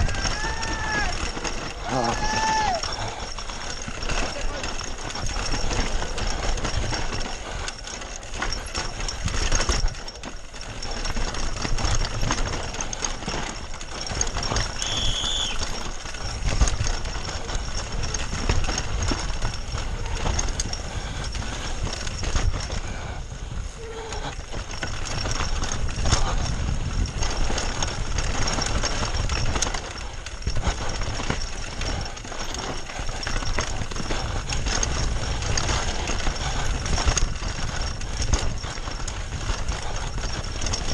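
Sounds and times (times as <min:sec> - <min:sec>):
wind buffeting microphone: 0:00.0 - 0:07.7, 0:13.8 - 0:40.9
bike rattling over bumps: 0:00.0 - 0:40.9
tyres rumbling over dirt: 0:00.0 - 0:40.9.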